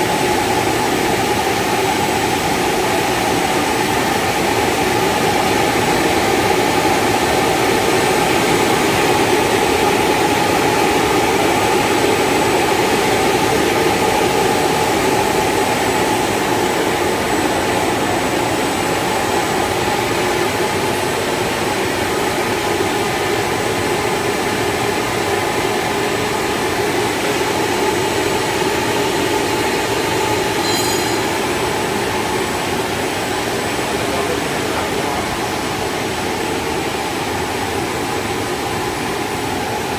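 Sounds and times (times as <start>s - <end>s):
extrusion line running noise: 0.0s - 39.9s.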